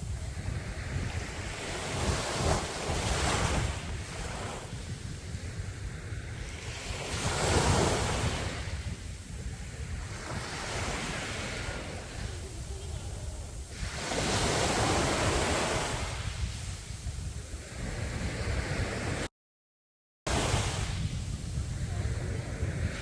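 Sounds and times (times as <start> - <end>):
waves breaking on beach: 0.0 - 19.3, 20.3 - 23.0
wind rumble on microphone: 0.0 - 19.3, 20.3 - 23.0.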